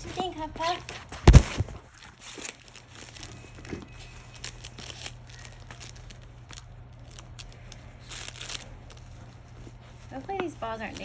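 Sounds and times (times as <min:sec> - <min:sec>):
plastic balls crinkling and clicking: 0:00.0 - 0:11.0
steady low hum: 0:00.0 - 0:11.0.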